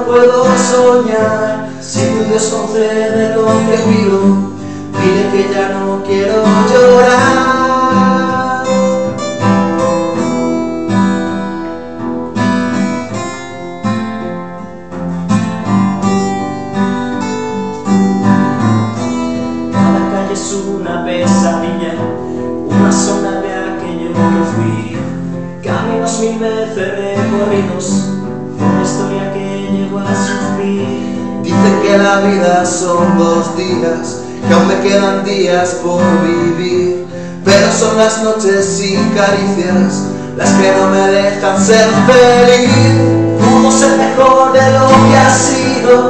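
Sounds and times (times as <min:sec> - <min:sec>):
acoustic guitars strumming: 0:00.0 - 0:46.0.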